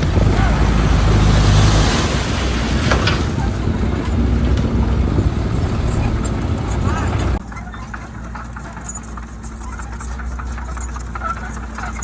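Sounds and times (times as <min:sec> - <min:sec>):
heavy diesel engine under load: 0:00.0 - 0:12.0.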